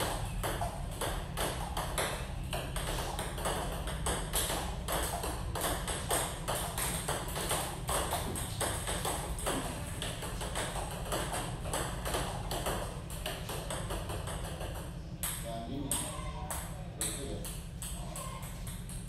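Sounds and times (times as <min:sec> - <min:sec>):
table tennis ball clicking: 0:00.1 - 0:19.0.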